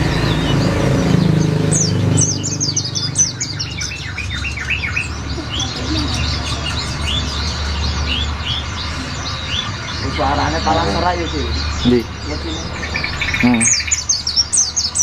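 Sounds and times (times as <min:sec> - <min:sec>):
bird singing high notes: 0:00.0 - 0:15.0
high bird chirps: 0:00.0 - 0:15.0.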